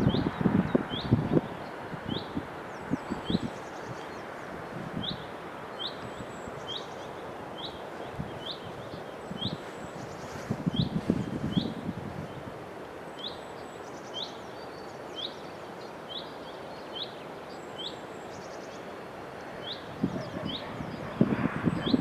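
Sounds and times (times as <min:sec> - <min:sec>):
outdoor background hiss: 0:00.0 - 0:22.0
songbirds chirping: 0:00.0 - 0:22.0.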